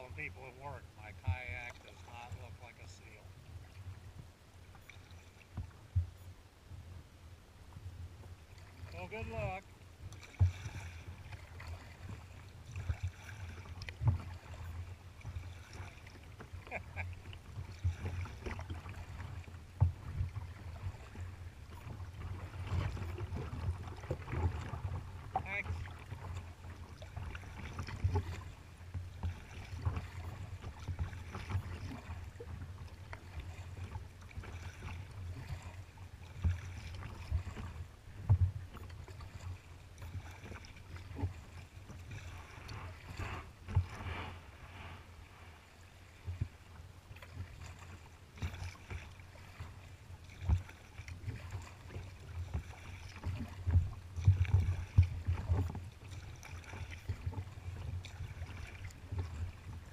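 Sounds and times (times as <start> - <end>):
paddle strokes and water splashing: 0.0 - 59.9.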